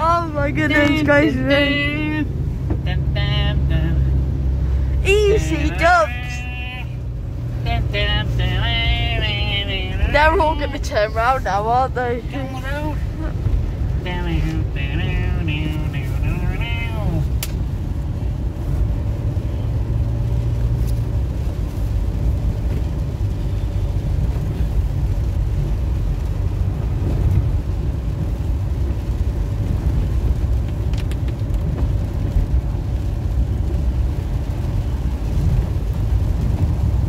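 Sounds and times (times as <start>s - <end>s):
engine and tyre rumble: 0.0s - 37.0s.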